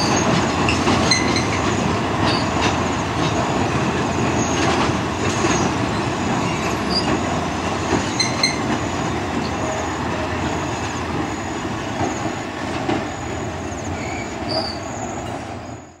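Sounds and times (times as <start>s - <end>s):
train rumbling over wooden bridge: 0.0s - 16.0s.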